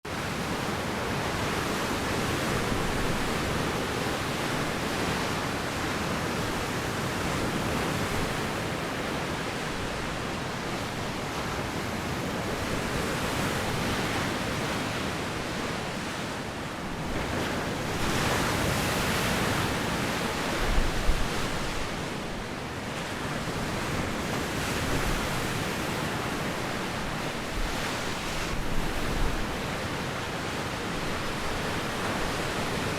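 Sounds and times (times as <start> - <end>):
waves washing on shore: 0.1 - 32.9
wind gusts on microphone: 0.1 - 32.9.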